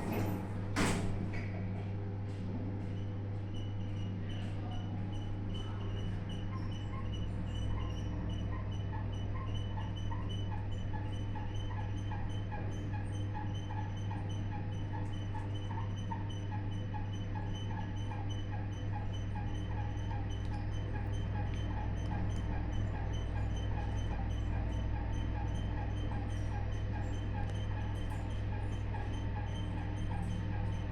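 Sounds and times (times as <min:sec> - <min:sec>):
elevator low hum: 0:00.0 - 0:30.9
high rhythmic squeak: 0:03.4 - 0:30.9.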